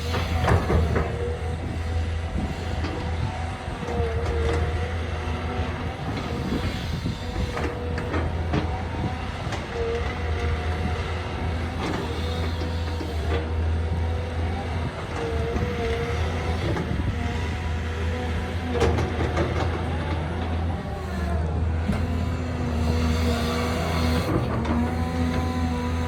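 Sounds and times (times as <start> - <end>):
excavator diesel engine drone: 0.0 - 26.0
hydraulic whine: 0.0 - 26.0.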